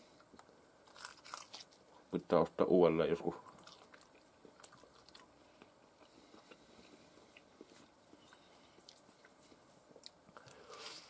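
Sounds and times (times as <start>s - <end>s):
person chewing: 0.2s - 2.0s, 3.4s - 11.0s.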